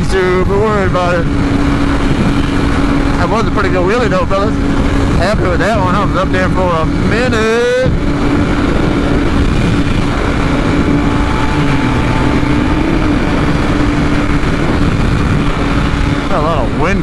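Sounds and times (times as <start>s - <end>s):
motorcycle engine running steadily: 0.0s - 17.0s
wind rushing through helmet: 0.0s - 17.0s.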